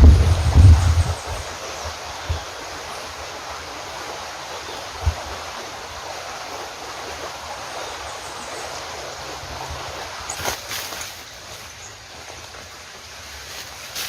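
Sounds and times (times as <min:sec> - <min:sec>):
steady outdoor rushing noise: 0:00.0 - 0:14.0.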